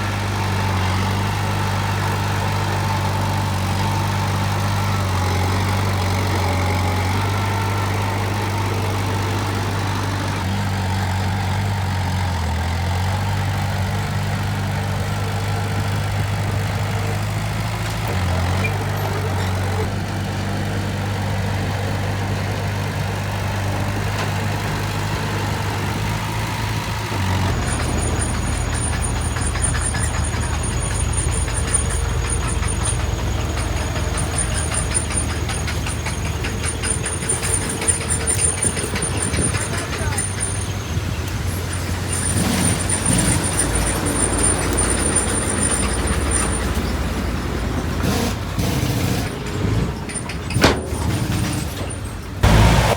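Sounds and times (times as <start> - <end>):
diesel machine engine running: 0.0 - 52.9
rough clattering engine: 0.0 - 52.9.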